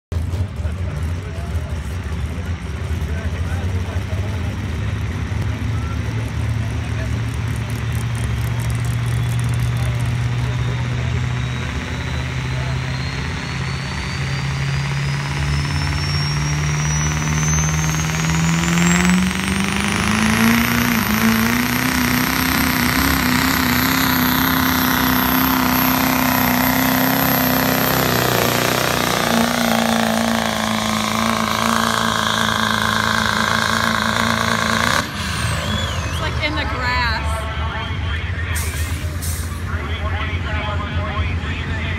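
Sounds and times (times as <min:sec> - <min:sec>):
diesel engine at full throttle: 0:00.0 - 0:41.9.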